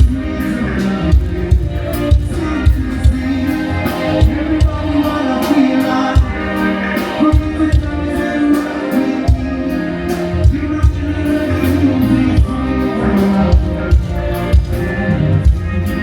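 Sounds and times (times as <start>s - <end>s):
band music with singing: 0.0s - 16.0s
steady drum beat: 0.0s - 16.0s.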